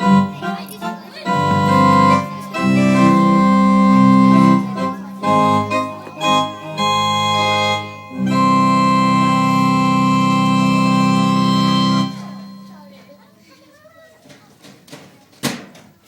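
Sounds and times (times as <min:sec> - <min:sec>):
organ playing held chords: 0:00.0 - 0:13.2.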